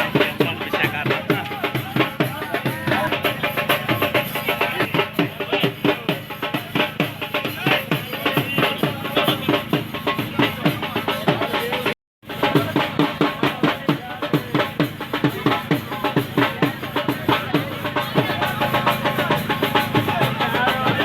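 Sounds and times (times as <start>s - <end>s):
music with fast drumming: 0.0s - 21.0s.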